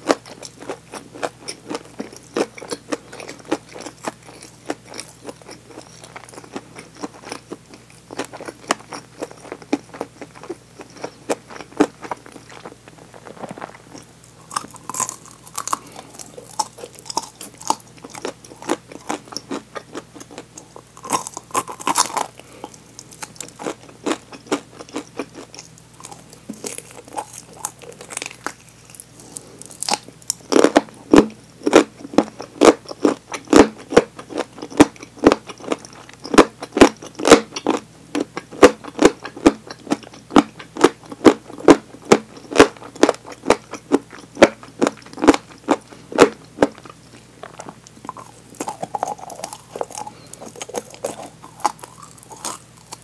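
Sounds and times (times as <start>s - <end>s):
crunchy chewing: 0.0s - 53.0s.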